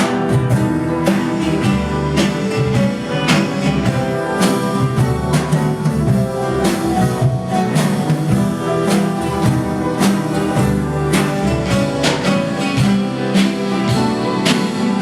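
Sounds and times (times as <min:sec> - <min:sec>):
drum kit beat: 0:00.0 - 0:15.0
guitar: 0:00.0 - 0:15.0
swing band with vocals: 0:00.0 - 0:15.0.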